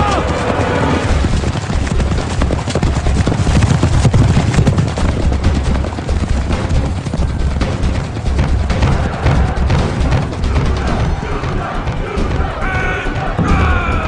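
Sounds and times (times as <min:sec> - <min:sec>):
horses galloping hoofbeats: 0:00.0 - 0:14.0.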